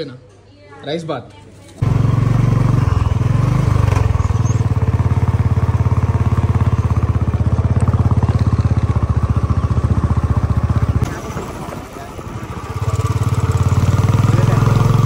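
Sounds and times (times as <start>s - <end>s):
motorcycle engine pulsing: 1.8s - 15.0s.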